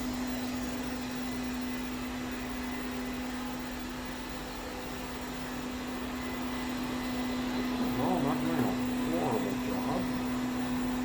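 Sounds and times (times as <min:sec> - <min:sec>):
robot vacuum cleaner running: 0:00.0 - 0:11.0.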